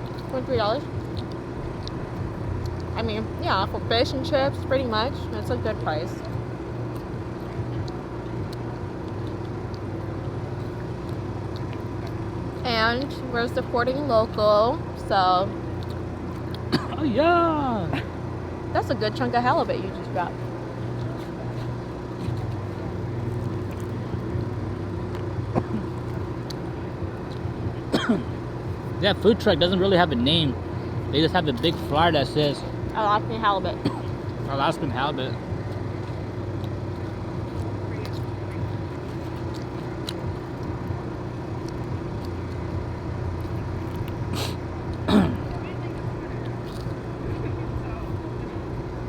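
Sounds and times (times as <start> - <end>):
engine humming steadily: 0.0 - 49.0.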